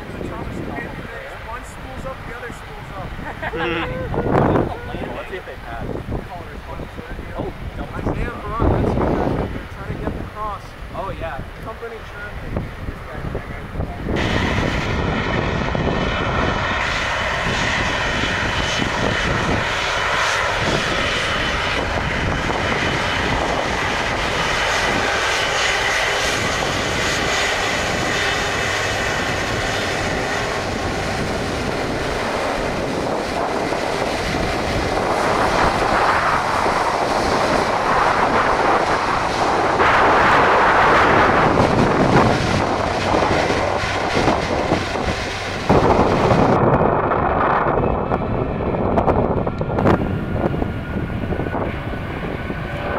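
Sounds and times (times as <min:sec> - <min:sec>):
airliner engines rushing past: 0:00.0 - 0:52.9.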